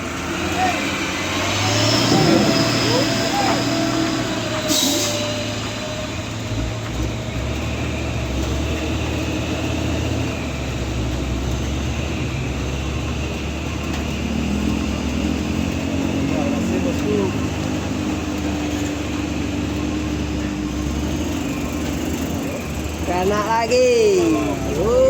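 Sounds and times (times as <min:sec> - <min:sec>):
truck diesel engine under load: 0:00.0 - 0:25.0.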